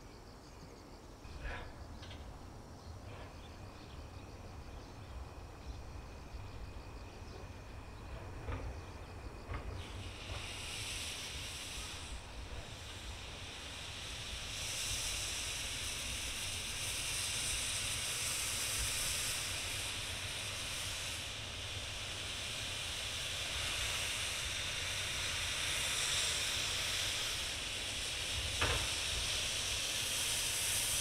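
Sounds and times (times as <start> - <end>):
steam hissing: 1.3 - 31.0.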